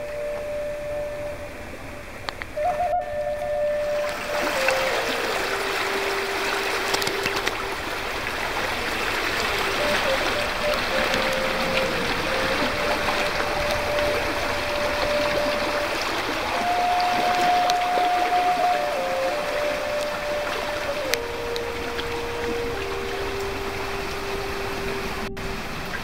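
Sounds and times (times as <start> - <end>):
slow melody of held notes: 0.0 - 26.0
stream running over gravel: 0.0 - 26.0.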